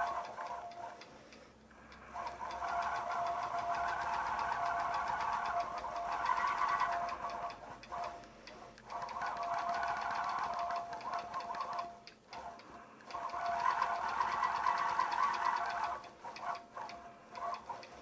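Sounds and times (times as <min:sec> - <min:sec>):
quilting machine stitching rapidly: 0:02.2 - 0:08.2, 0:08.8 - 0:18.0.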